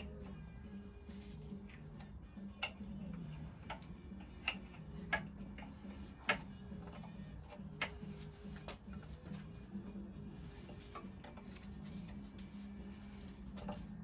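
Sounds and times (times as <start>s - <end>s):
tools tapping on metal: 0.0s - 12.5s, 13.1s - 14.0s.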